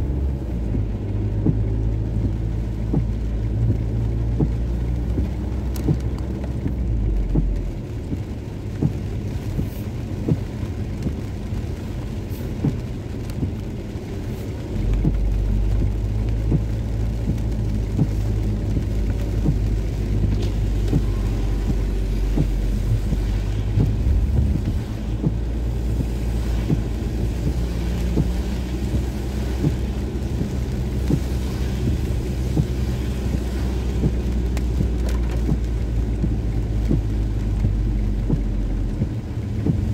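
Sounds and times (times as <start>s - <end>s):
car engine and road rumble: 0.0s - 39.9s
hiss of wet tyres and rain: 0.0s - 39.9s
raindrops ticking on windshield: 0.0s - 39.9s.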